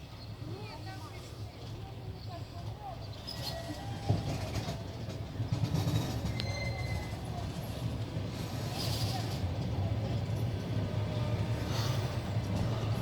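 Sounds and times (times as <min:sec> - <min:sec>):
train wheels clattering on track: 0:02.5 - 0:13.0.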